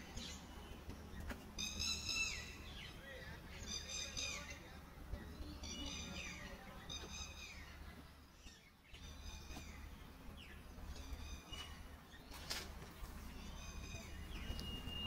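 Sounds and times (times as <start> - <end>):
bird buzzy chirp: 0.0 - 3.0, 5.3 - 15.0.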